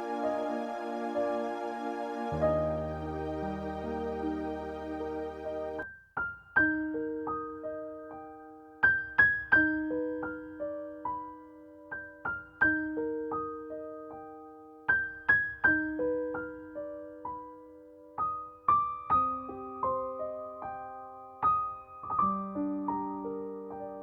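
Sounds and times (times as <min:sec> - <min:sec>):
soft piano music: 0:00.0 - 0:24.0.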